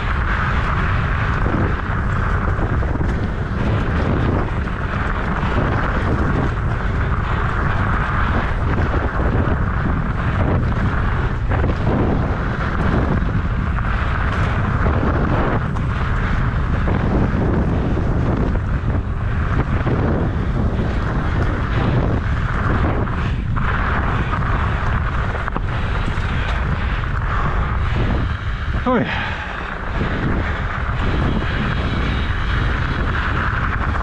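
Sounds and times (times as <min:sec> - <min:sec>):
mountain bike rumbling and rattling: 0:00.0 - 0:34.0
wind buffeting microphone: 0:00.0 - 0:34.0.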